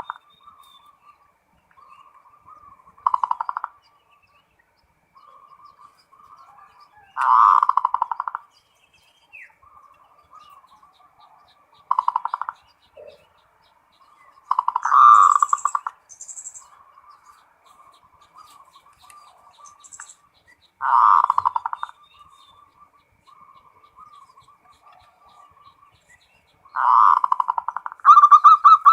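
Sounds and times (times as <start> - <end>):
dove cooing: 0.0 - 1.2, 1.8 - 3.8, 5.2 - 8.5, 9.6 - 13.3, 14.0 - 28.9.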